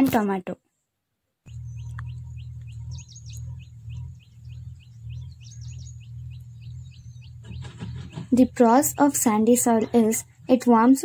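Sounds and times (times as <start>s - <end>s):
steady low rumble: 1.5s - 10.6s
birds chirping: 1.5s - 11.0s.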